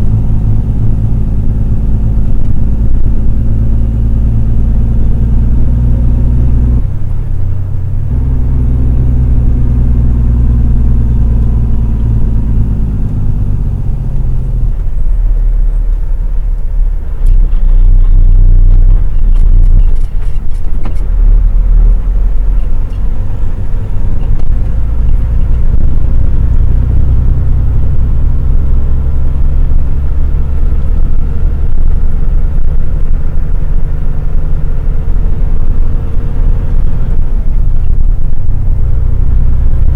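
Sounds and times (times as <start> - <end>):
truck diesel engine rumble: 0.0 - 39.9.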